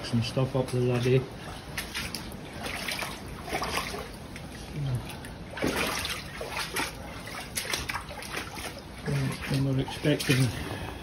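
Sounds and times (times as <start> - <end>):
footsteps splashing through water: 0.6 - 4.6, 5.2 - 10.8.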